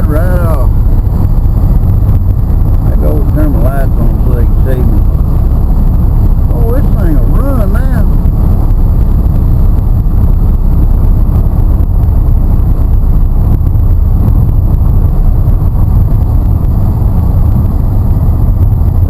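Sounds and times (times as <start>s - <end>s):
road rumble: 0.0s - 19.0s
truck engine from inside cab: 0.0s - 19.0s.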